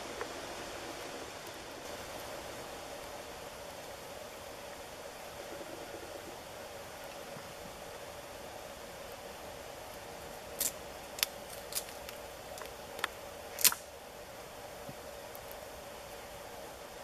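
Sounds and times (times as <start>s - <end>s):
faint steady hum: 0.0s - 17.0s
wood crackling in campfire: 0.0s - 17.0s.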